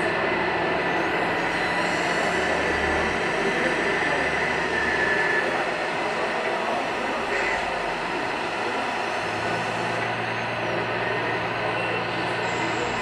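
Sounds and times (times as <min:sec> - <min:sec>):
electric pump and motors whirring: 0:00.0 - 0:13.0
thin high whine: 0:00.0 - 0:13.0.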